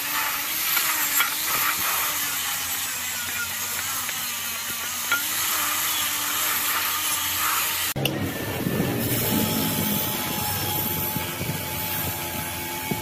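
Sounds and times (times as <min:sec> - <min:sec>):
angle grinder sanding steel: 0:00.0 - 0:13.0.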